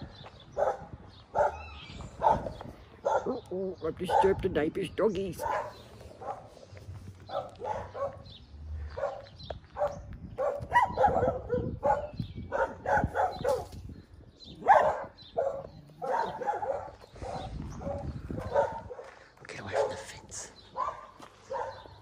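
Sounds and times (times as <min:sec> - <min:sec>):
dogs barking: 0:00.5 - 0:04.6, 0:05.3 - 0:13.8, 0:14.5 - 0:22.0.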